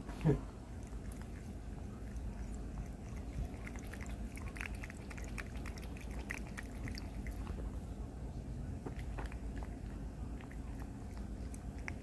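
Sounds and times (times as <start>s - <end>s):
cat lapping water: 0.7s - 12.0s.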